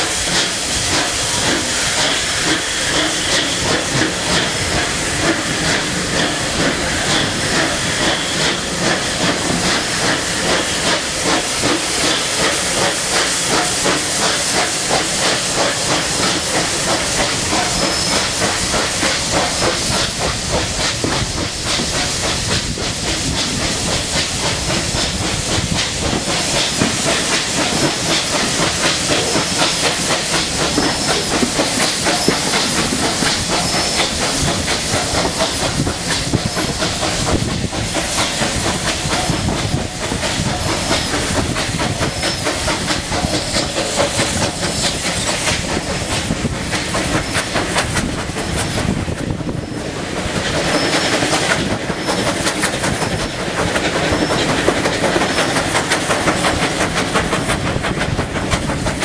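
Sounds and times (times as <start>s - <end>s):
steam hiss: 0.0s - 59.0s
train wheels clattering on rails: 0.0s - 59.0s.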